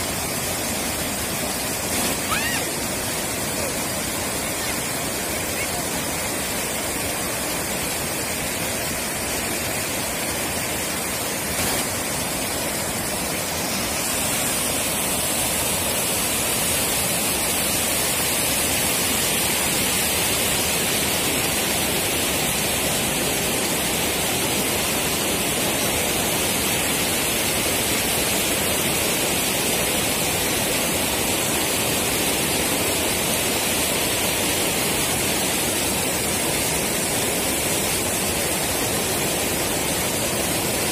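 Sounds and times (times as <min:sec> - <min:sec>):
floodwater rushing over dam: 0:00.0 - 0:40.9.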